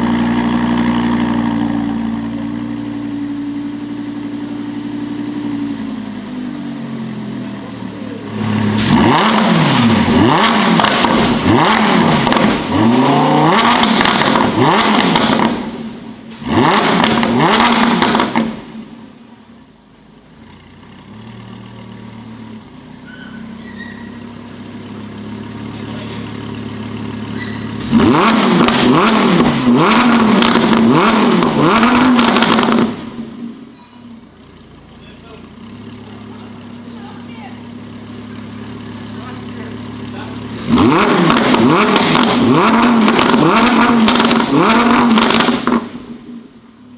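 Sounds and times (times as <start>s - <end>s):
car engine revving: 0.0s - 23.0s, 24.0s - 33.7s, 34.4s - 46.9s.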